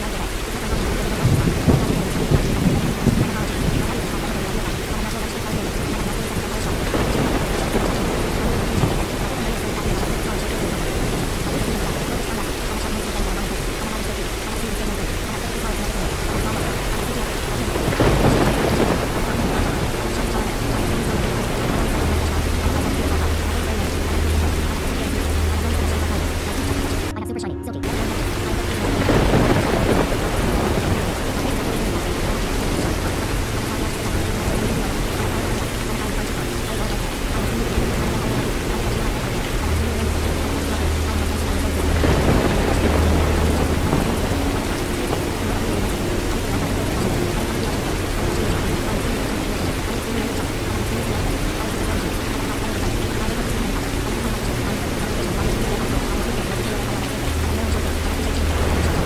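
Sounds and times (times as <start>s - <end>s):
low rolling thunder: 0.0s - 27.1s, 27.8s - 59.0s
heavy rain: 0.0s - 27.2s, 27.8s - 59.0s.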